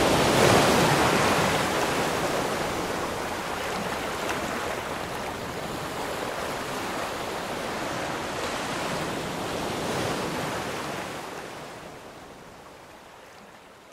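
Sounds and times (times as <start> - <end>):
surf washing over sand: 0.0 - 13.5.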